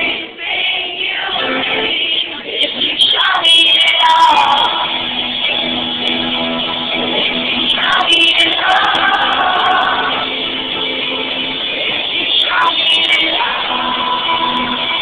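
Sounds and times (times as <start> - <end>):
person singing: 0.0 - 6.2, 6.9 - 15.0
electric guitars: 1.4 - 15.0
live rock band: 2.6 - 15.0.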